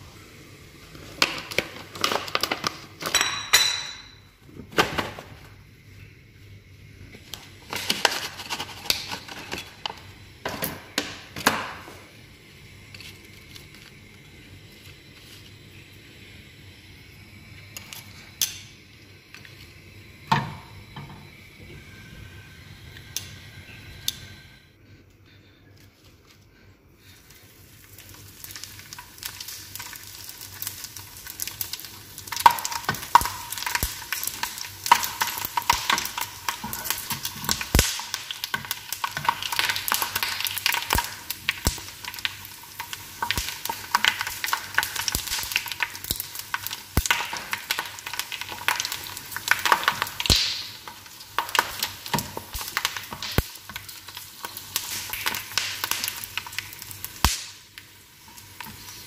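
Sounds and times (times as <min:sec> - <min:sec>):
food sizzling and popping in oil: 0:00.0 - 0:24.6, 0:27.0 - 0:59.0.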